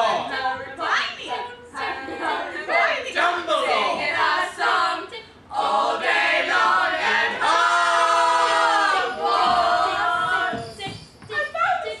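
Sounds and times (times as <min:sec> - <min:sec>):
young voices singing a cappella: 0:00.0 - 0:12.0.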